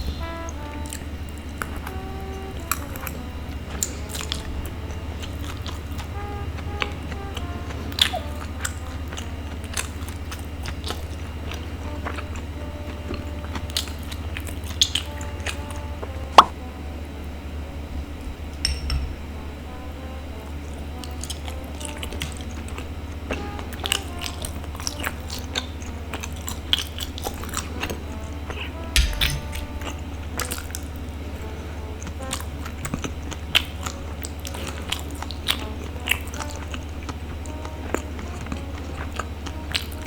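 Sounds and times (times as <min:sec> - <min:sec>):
sticky food chewing: 0:00.0 - 0:17.2, 0:19.7 - 0:40.0
light background music: 0:00.0 - 0:40.0.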